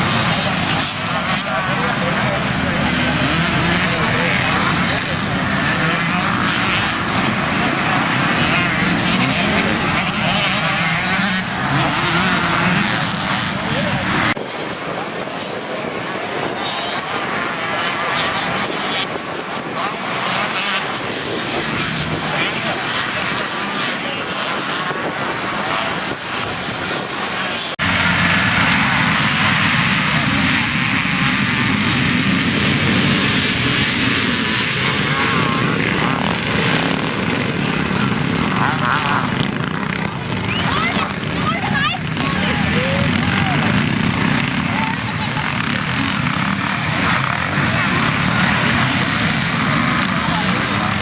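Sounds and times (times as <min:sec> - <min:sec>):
motocross bike engines revving: 0:00.0 - 0:51.0.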